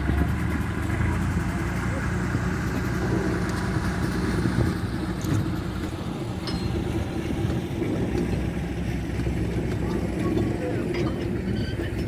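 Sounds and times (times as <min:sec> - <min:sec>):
locomotive diesel engine rumbling: 0:00.0 - 0:12.0.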